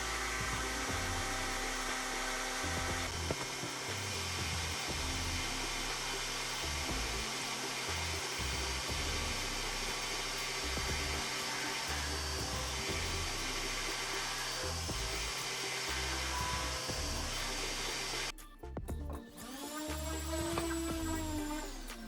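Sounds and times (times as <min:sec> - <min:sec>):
milling tool electric motor: 0:00.0 - 0:18.3, 0:19.4 - 0:22.0
background music: 0:00.0 - 0:22.0.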